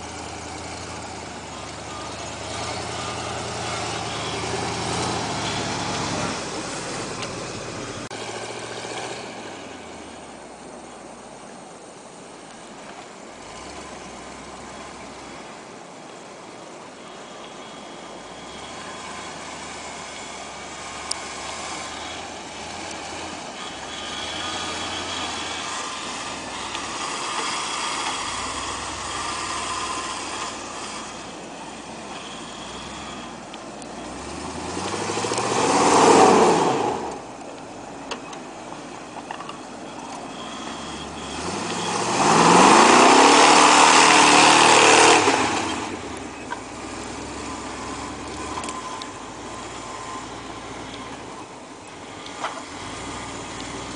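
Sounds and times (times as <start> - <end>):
pickup truck engine revving: 0.0 - 10.8, 13.3 - 15.9, 17.1 - 53.9.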